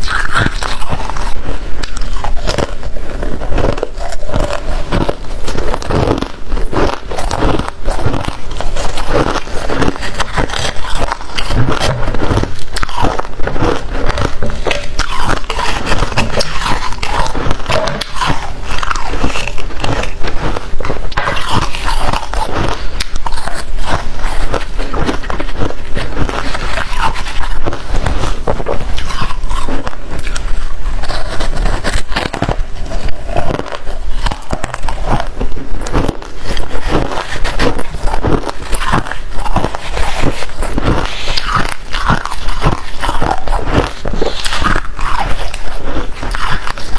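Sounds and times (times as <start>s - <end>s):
chewing crunchy frost: 0.0s - 46.9s.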